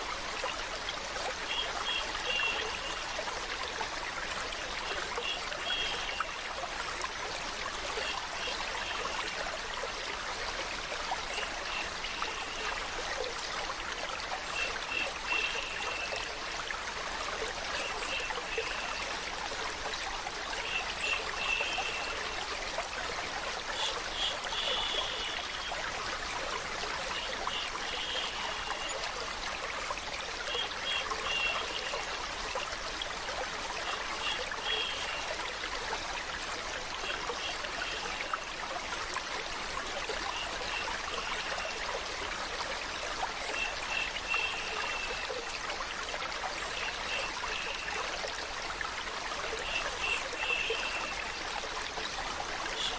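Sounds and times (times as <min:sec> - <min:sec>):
water running: 0:01.4 - 0:42.3, 0:43.2 - 0:45.7, 0:46.5 - 0:48.4, 0:49.3 - 0:52.9.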